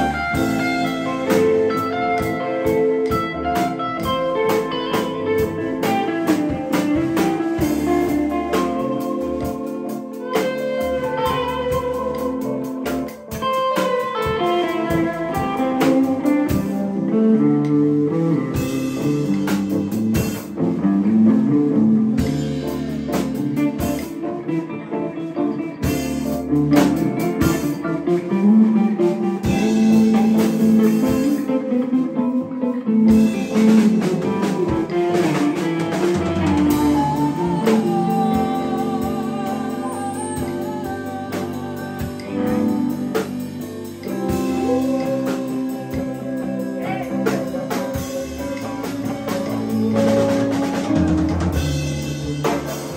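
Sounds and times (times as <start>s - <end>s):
bass guitar: 0.0s - 52.9s
drum kit: 0.0s - 52.9s
electric guitar lead: 0.0s - 52.9s.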